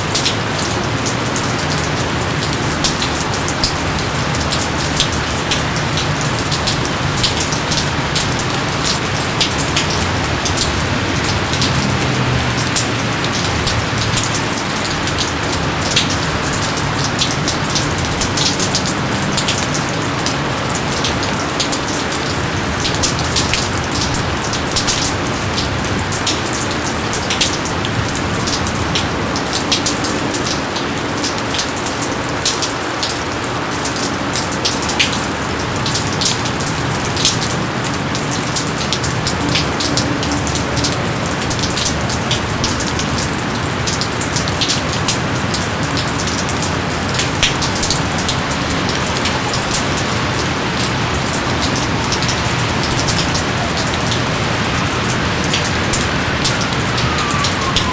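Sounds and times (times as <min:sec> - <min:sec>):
raindrops ticking: 0:00.0 - 0:57.9.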